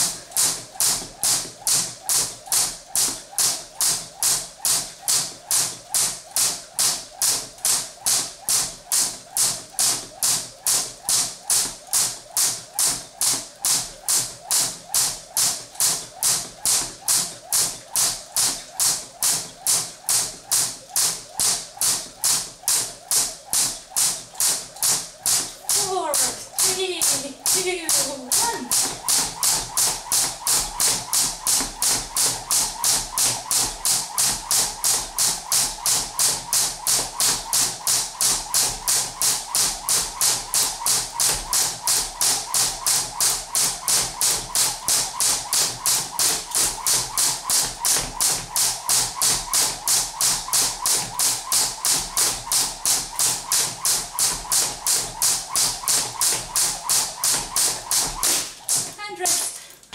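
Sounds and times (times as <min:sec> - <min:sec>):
jump rope slapping the floor: 0:00.0 - 0:59.9.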